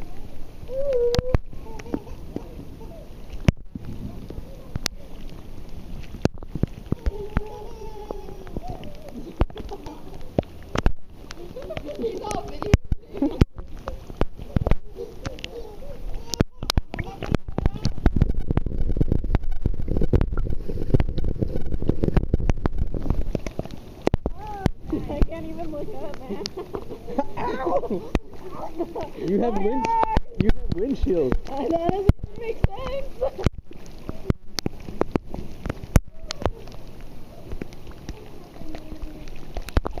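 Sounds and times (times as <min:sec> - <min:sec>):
rain falling on pool water: 0:00.0 - 0:40.0.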